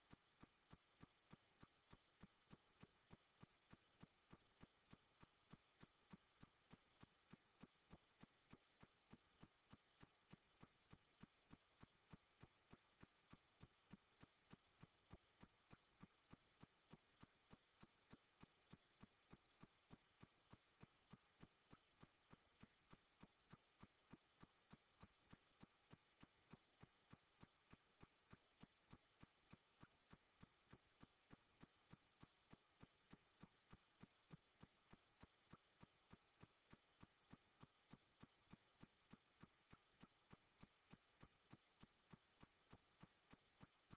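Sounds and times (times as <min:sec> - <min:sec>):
faint evenly spaced ticks: 0:00.0 - 0:43.9.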